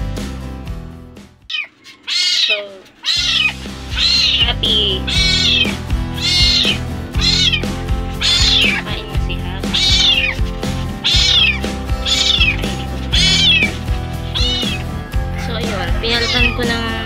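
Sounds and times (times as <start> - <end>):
background music: 0.0 - 1.6, 2.9 - 17.0
kitten meowing: 1.5 - 16.9.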